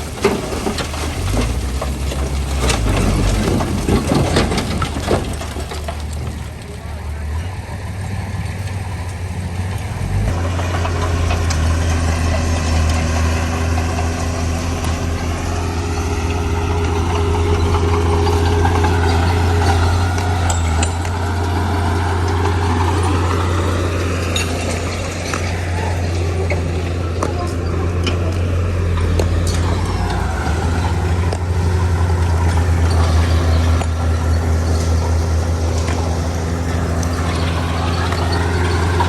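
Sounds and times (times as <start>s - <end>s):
diesel engine deep hum: 0.0s - 39.0s.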